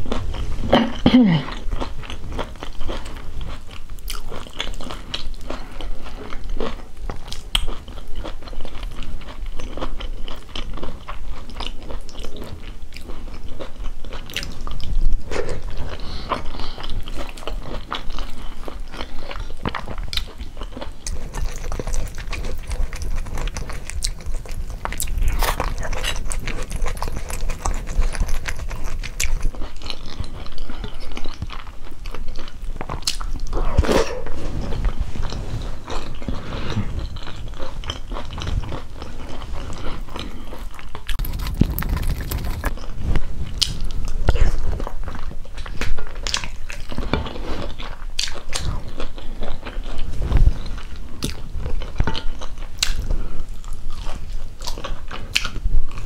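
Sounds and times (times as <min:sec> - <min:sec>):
close chewing and mouth sounds: 0:00.0 - 0:56.0.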